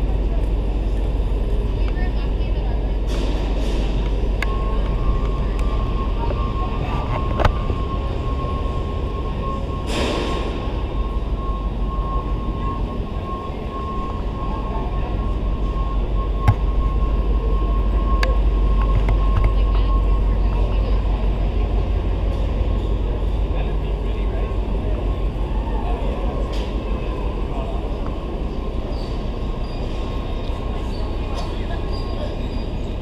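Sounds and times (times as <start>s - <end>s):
high-pitched whine: 0.0s - 33.0s
low mechanical rumble: 0.0s - 33.0s.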